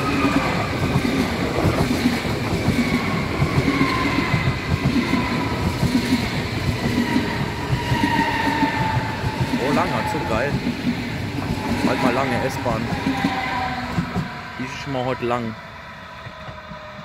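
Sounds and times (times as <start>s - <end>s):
wheels clattering on rails: 0.0s - 14.8s
electric train passing: 0.0s - 17.0s.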